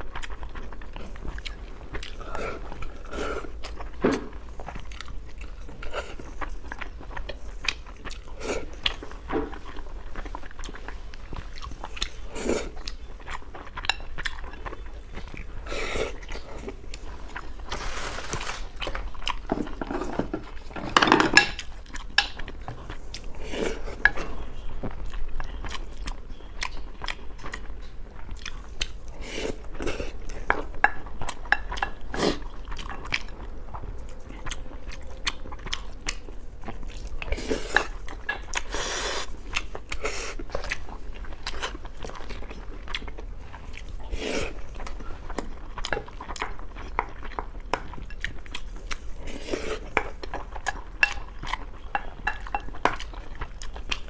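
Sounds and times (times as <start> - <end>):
person chewing and biting: 0.0 - 54.0.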